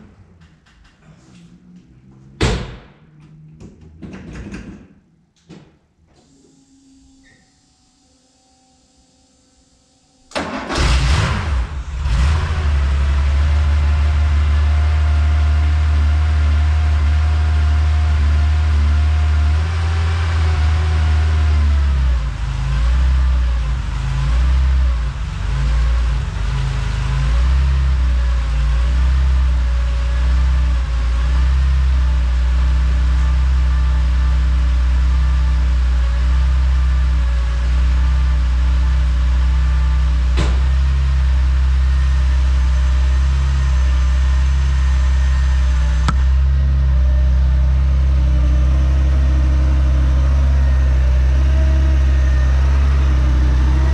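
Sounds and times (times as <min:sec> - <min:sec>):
car engine idling: 0:09.6 - 0:53.9
car engine cranking and starting: 0:10.3 - 0:53.9.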